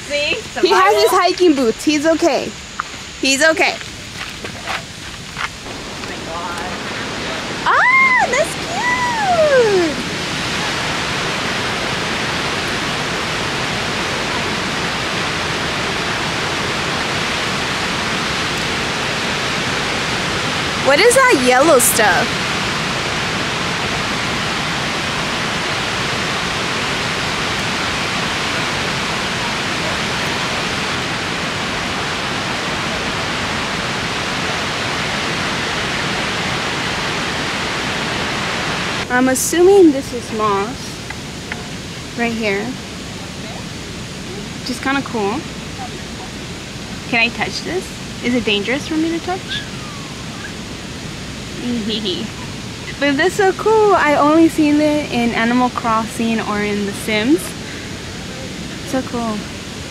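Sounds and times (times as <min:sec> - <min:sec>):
rushing water of rapids: 0:03.2 - 0:59.9.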